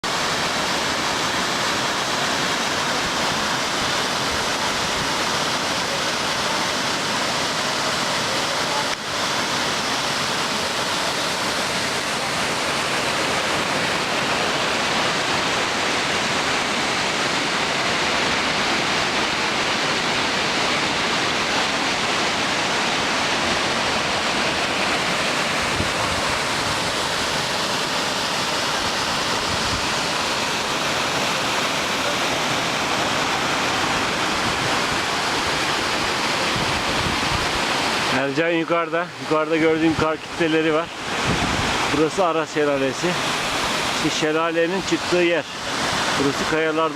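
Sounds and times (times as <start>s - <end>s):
waterfall rushing over rock: 0.0s - 46.9s.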